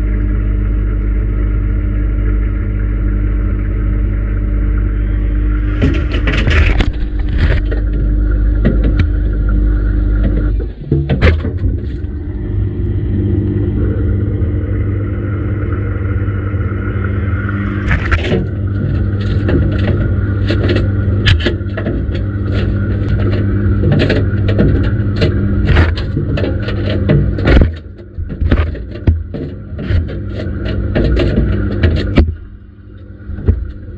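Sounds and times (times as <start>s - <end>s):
washing machine motor hum: 0.0s - 33.9s.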